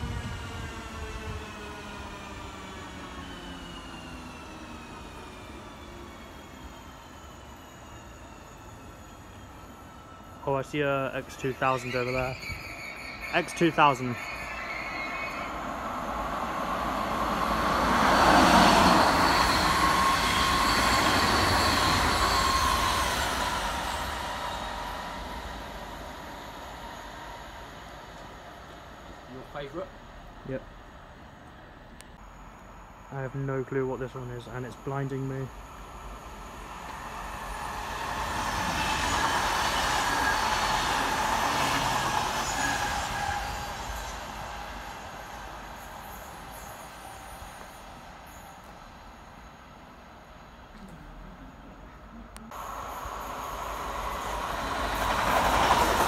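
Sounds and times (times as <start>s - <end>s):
train passing with rushing rumble: 0.0s - 56.0s.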